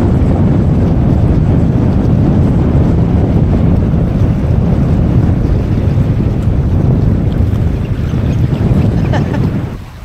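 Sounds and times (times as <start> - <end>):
sea water washing against path: 0.0 - 10.0
wind buffeting microphone: 0.0 - 10.0.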